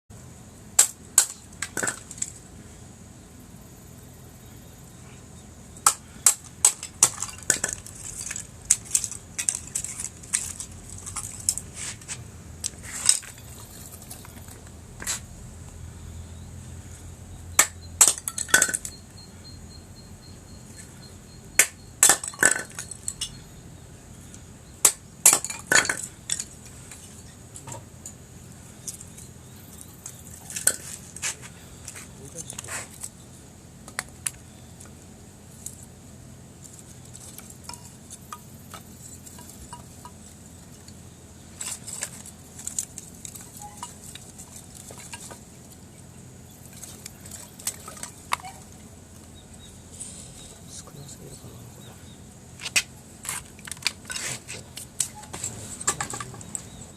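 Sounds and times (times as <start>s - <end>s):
low steady background: 0.1s - 56.9s.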